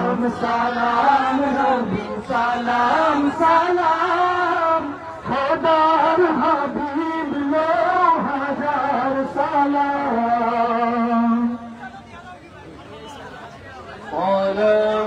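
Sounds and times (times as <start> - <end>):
man singing devotional chant: 0.0 - 11.8, 14.1 - 15.0.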